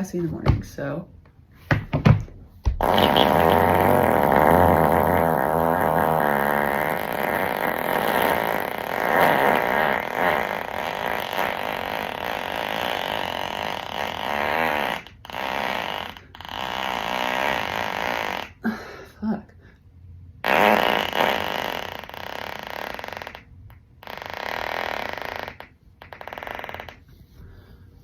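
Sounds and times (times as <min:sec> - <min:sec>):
long fart: 0:02.7 - 0:18.8, 0:20.4 - 0:27.1.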